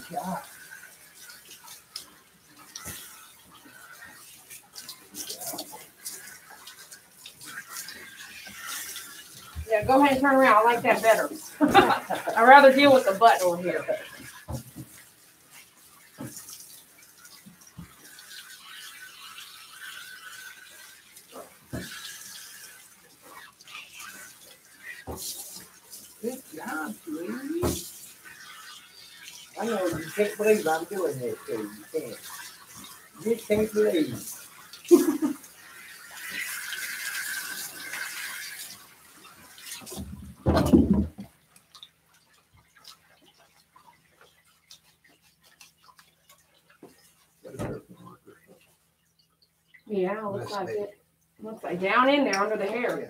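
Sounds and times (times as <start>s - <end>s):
water spraying on dog's coat: 0.0s - 48.8s, 51.5s - 53.0s.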